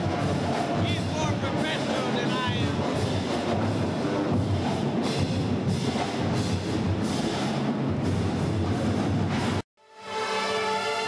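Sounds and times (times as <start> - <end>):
pep band playing: 0.0 - 9.6.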